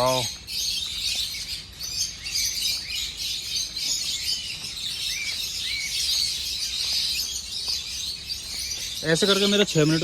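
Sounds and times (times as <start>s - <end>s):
caged birds chirping: 0.0s - 10.0s
rising and falling bird calls: 0.0s - 10.0s.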